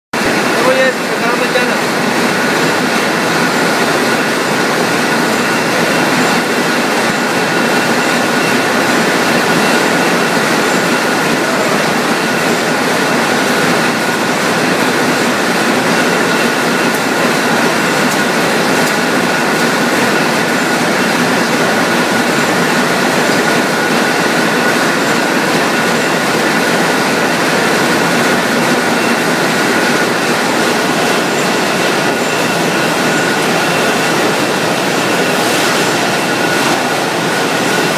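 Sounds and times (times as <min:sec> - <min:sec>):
high-pitched machine whine: 0:00.2 - 0:37.9
machinery mechanical din: 0:00.2 - 0:37.9.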